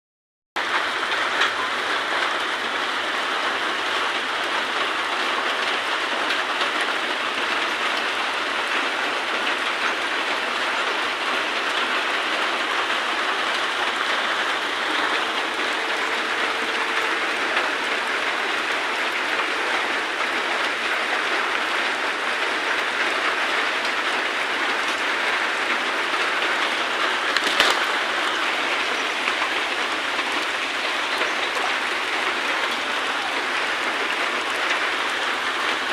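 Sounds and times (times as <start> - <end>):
steady rain falling: 0.6 - 35.9.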